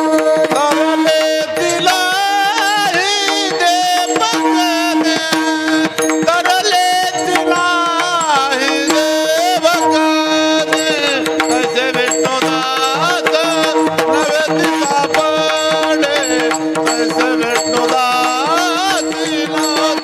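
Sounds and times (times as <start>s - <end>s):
man singing devotional melody: 0.0s - 20.0s.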